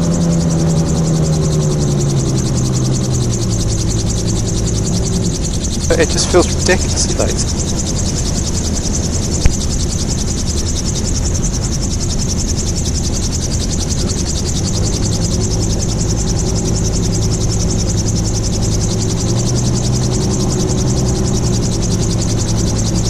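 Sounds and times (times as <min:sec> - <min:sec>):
engine and rotor drone: 0:00.0 - 0:23.0.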